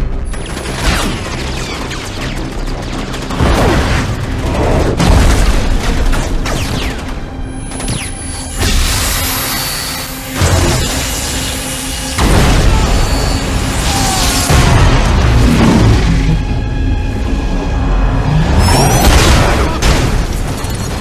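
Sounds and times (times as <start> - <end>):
film music score: 0.0 - 21.0.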